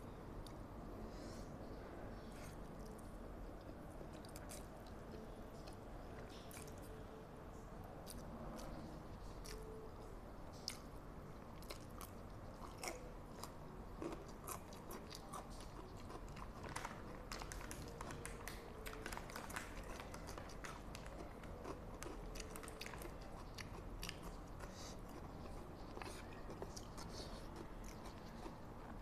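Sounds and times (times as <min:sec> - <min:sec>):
person chewing noodles: 0:02.3 - 0:06.9, 0:08.0 - 0:09.8, 0:11.4 - 0:29.0.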